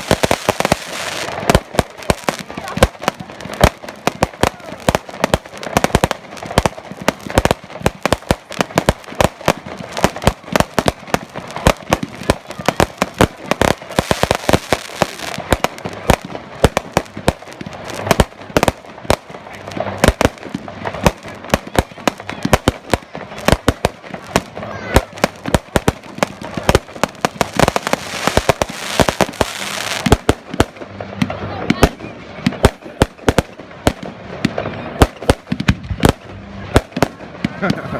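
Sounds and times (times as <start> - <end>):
fireworks bangs: 0.0 - 37.9
hissing crackle of fireworks: 0.0 - 37.9.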